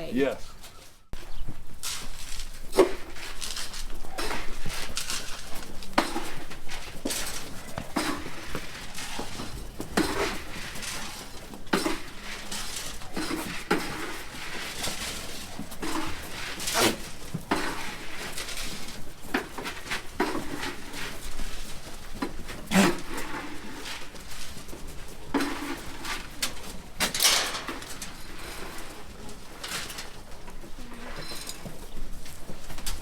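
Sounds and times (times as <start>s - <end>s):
alpacas feeding from bucket: 0.5s - 33.0s.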